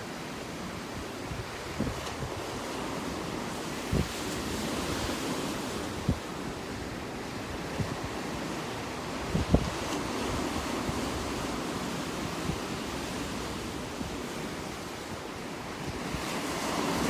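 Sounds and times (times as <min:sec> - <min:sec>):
surf washing against shore: 0:00.0 - 0:17.0
wind buffeting microphone: 0:01.0 - 0:17.0.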